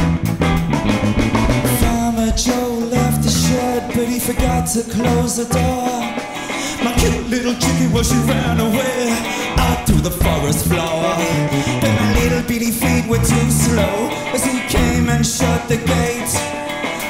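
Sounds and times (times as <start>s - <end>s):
blues band playing: 0.0s - 17.0s.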